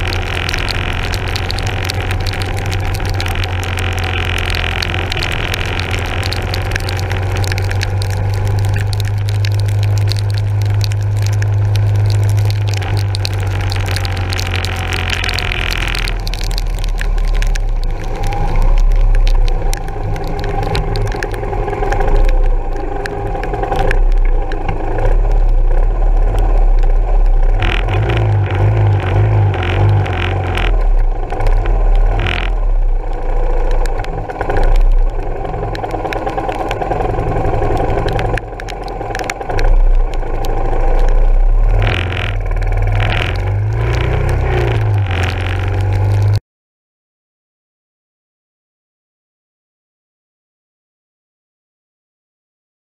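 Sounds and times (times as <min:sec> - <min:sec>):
rain: 0:00.0 - 0:46.4.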